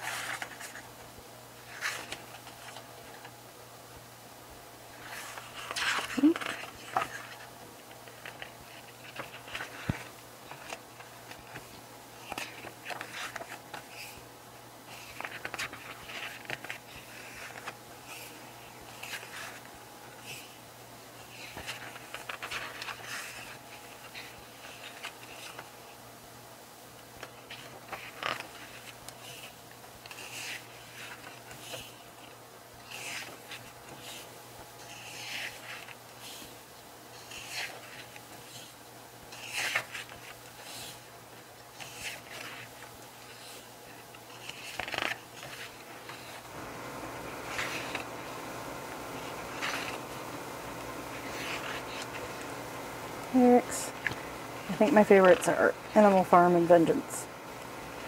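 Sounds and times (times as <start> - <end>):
book pages turning: 0.0 - 0.9, 1.6 - 3.3, 4.9 - 14.3, 14.9 - 20.6, 21.2 - 25.9, 27.2 - 36.6, 37.2 - 58.0
faint low hum: 0.0 - 58.0.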